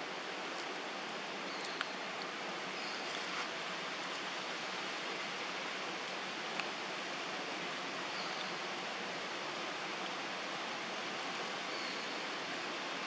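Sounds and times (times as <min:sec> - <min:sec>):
outdoor hiss: 0:00.0 - 0:13.0.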